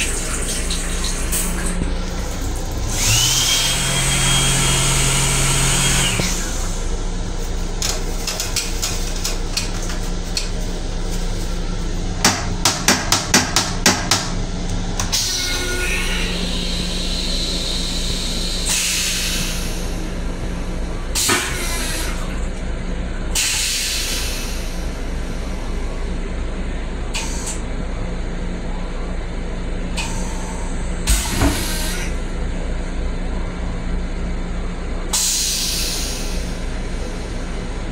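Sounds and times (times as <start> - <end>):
train interior hum: 6.0 - 37.9.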